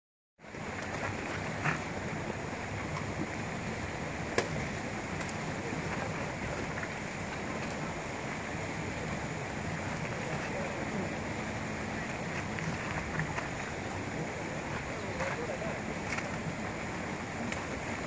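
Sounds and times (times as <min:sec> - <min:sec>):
rushing outdoor background noise: 0:00.4 - 0:18.0.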